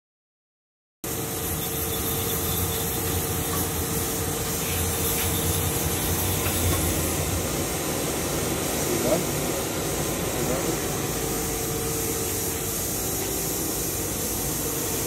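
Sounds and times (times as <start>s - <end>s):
lathe running hiss: 1.1s - 15.0s.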